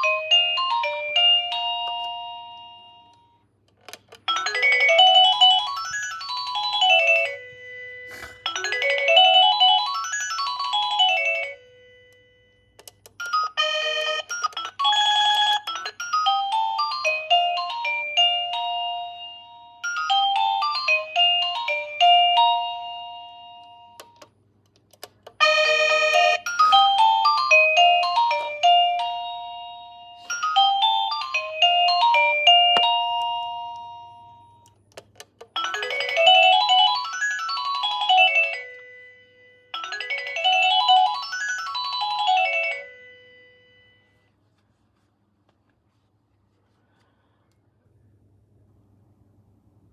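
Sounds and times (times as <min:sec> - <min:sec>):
electronic doorbell chime melodies: 0:00.0 - 0:03.5, 0:04.3 - 0:24.2, 0:25.4 - 0:34.8, 0:35.6 - 0:44.3.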